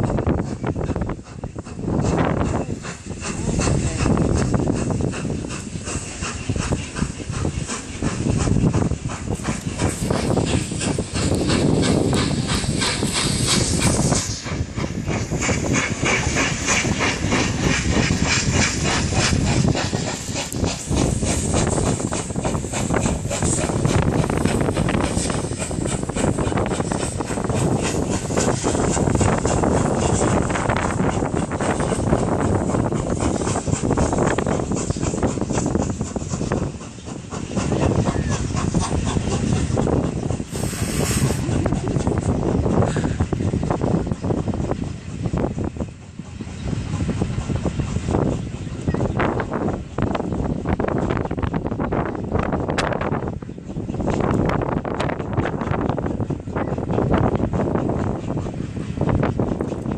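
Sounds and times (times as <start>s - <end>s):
steam hissing: 0.0s - 59.9s
steam locomotive chuffing: 0.0s - 59.9s
train wheels clattering: 0.0s - 59.9s
wind on microphone: 0.0s - 59.9s.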